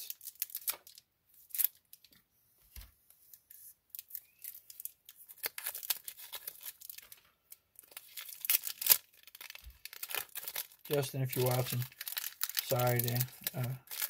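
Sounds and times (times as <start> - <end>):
wrapper crinkling: 0.0 - 2.1, 4.0 - 14.0.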